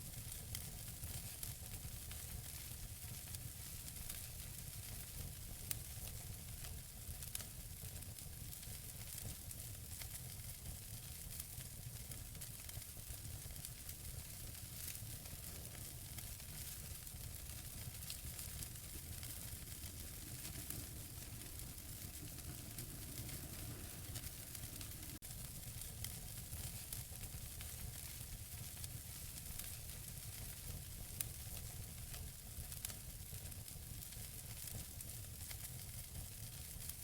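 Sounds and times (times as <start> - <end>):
logs burning in a fireplace: 0.0 - 37.0.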